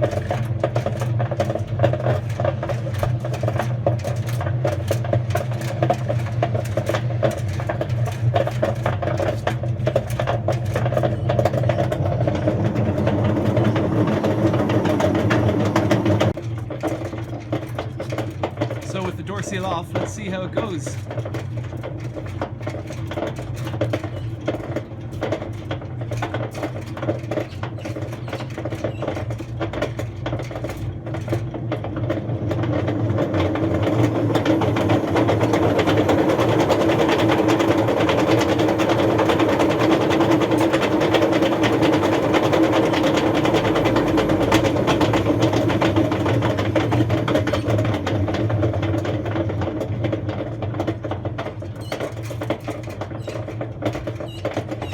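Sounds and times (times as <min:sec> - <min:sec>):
washing machine running: 0:00.0 - 0:54.9
worn drum bearings rumbling: 0:00.0 - 0:54.9.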